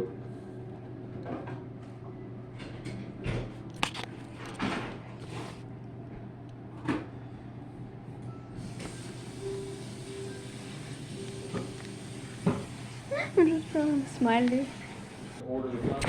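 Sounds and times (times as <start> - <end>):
low steady hum: 0.0 - 15.5.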